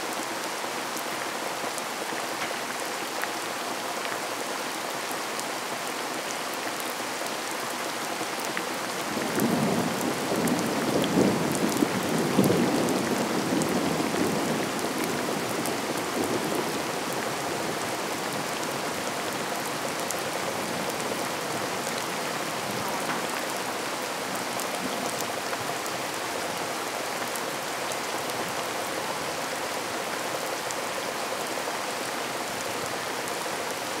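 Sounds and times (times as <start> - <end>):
rain pattering: 0.1 - 34.0.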